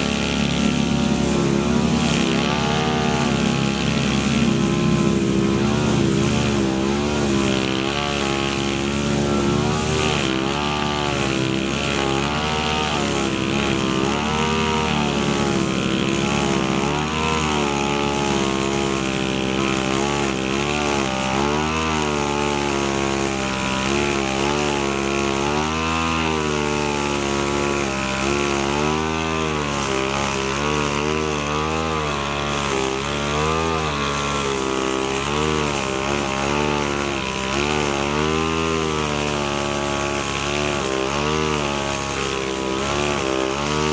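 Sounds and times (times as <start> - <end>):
brush cutter buzzing: 0.0 - 43.9.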